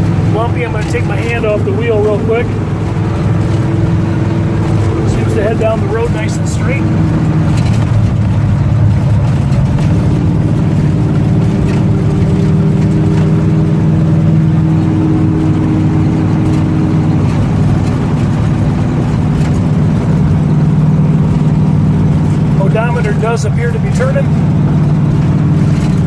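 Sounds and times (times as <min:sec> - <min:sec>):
pickup engine cruising: 0:00.0 - 0:26.0.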